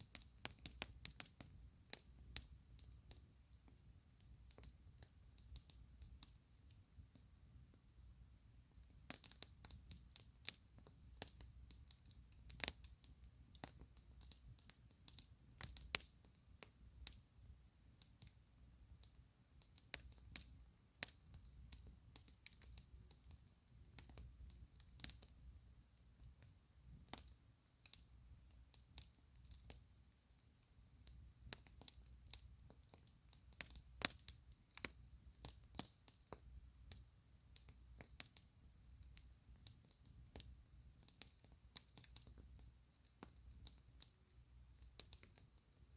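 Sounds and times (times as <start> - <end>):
campfire crackling: 0.0 - 45.9.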